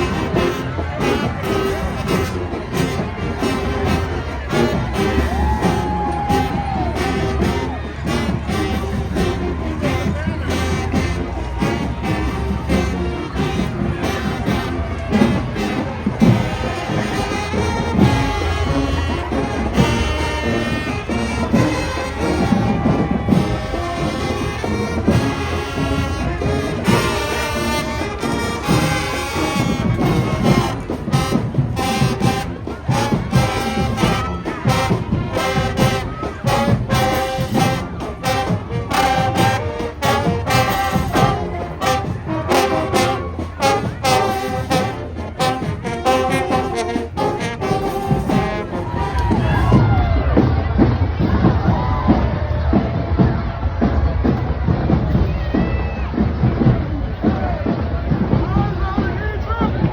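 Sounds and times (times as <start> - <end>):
brass playing the tune: 0.0 - 50.8
marching band playing: 0.0 - 59.9.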